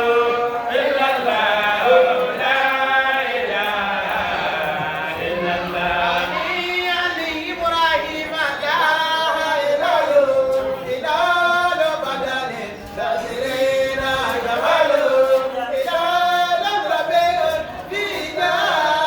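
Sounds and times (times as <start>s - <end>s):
group chanting without instruments: 0.0s - 19.0s.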